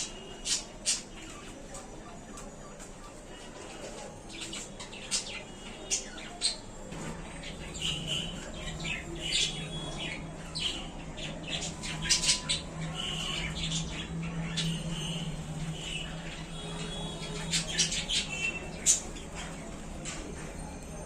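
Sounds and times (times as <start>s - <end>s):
budgerigars chirping and squawking: 0.0s - 20.4s.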